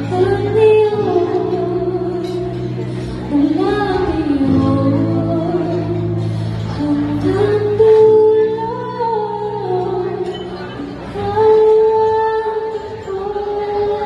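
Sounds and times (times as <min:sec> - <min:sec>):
woman singing into a microphone: 0:00.0 - 0:14.0.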